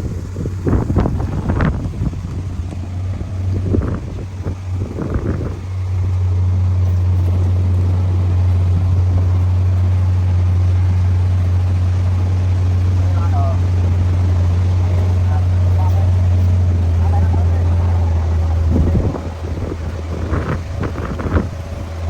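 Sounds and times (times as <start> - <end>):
large machinery engine droning: 0.0 - 22.0
uneven rumbling and knocks: 0.0 - 22.0.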